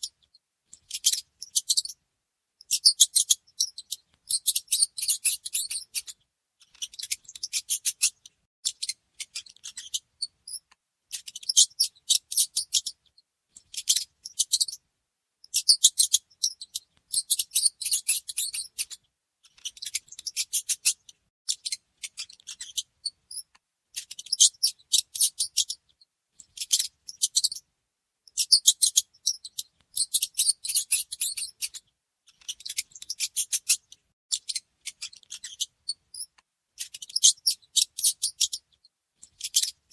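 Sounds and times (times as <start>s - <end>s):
mice scratchy clicking: 0.1s - 2.0s, 2.7s - 14.8s, 15.5s - 27.6s, 28.4s - 39.9s.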